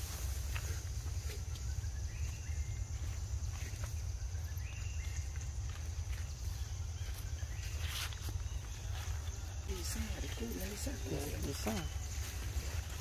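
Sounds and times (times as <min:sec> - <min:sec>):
leaves rustling: 0:00.0 - 0:13.0.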